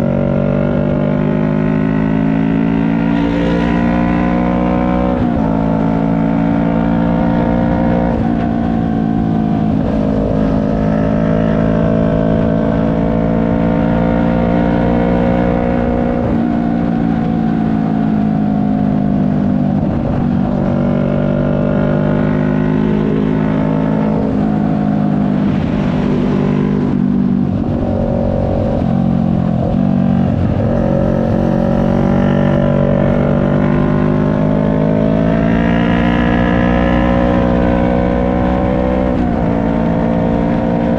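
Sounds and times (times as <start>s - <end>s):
motorcycle engine revving: 0.0s - 17.4s, 19.0s - 40.9s.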